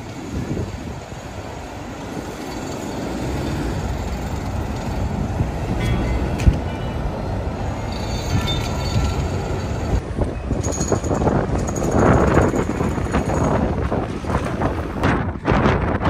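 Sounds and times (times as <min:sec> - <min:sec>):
bus passing: 0:00.0 - 0:16.0
tyre hiss and road noise: 0:00.0 - 0:16.0.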